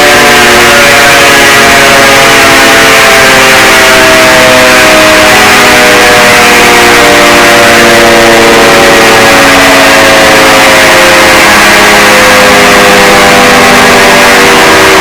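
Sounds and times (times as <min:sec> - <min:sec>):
alarm tones sliding downward: 0:00.0 - 0:15.0.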